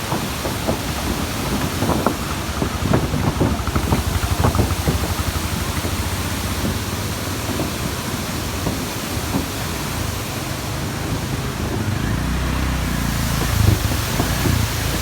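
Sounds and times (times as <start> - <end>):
waterfall rushing: 0.0 - 15.0
wind buffeting microphone: 0.0 - 15.0.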